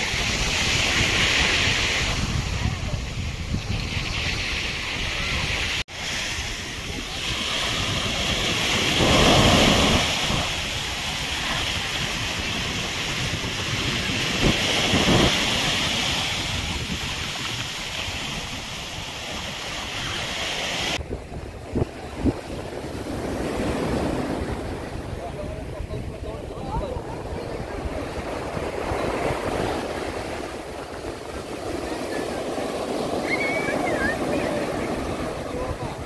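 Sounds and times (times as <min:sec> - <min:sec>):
waves washing up a shore: 0:00.0 - 0:36.0
wind buffeting the microphone: 0:00.0 - 0:36.0.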